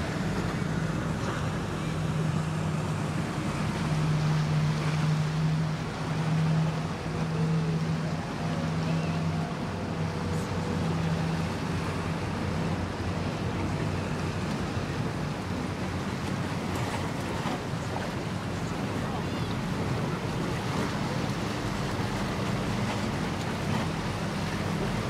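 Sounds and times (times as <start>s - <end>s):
boat engines humming: 0.0s - 25.0s
water washing: 0.0s - 25.0s.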